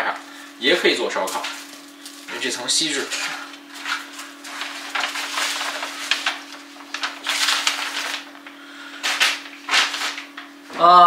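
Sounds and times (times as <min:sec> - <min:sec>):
steady low hum: 0:00.0 - 0:11.0
aluminium foil crinkling: 0:00.3 - 0:10.6.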